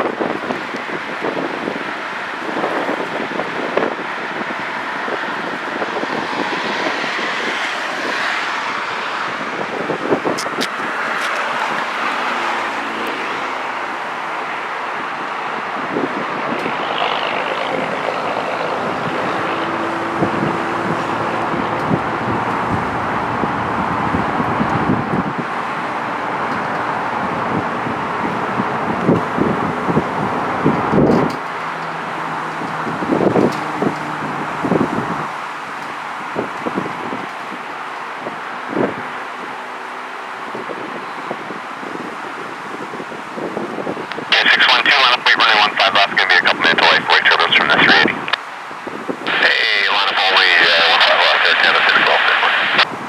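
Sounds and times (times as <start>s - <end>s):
jet engines roaring with crackle: 0.0s - 53.0s.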